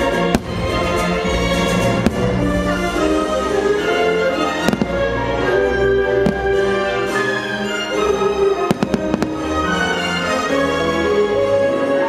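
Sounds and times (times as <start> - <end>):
orchestral music: 0.0 - 12.0.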